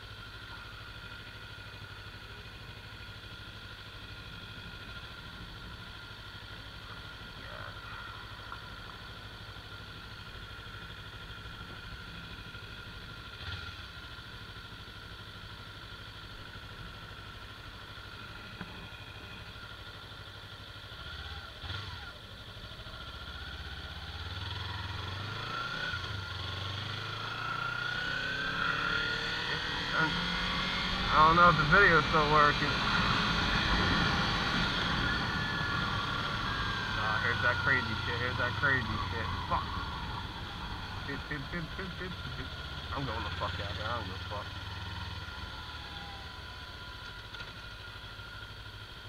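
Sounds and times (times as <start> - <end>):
motorcycle accelerating: 0.0 - 49.0
motorcycle engine idling: 0.0 - 49.0.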